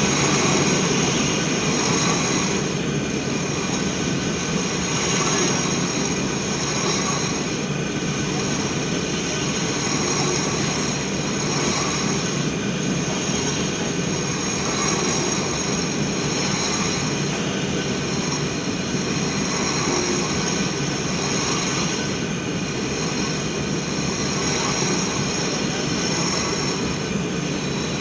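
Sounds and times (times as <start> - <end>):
machine whine and rumble: 0.0 - 28.0.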